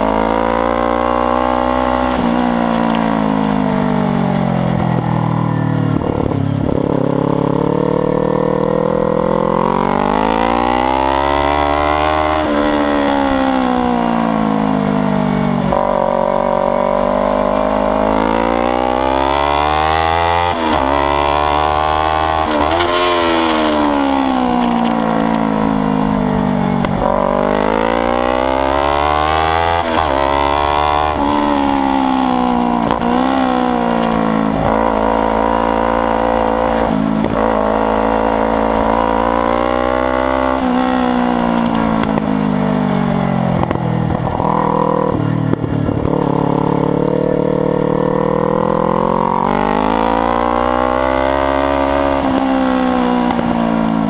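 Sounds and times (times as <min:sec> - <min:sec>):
motorcycle engine revving loudly: 0:00.0 - 0:54.0.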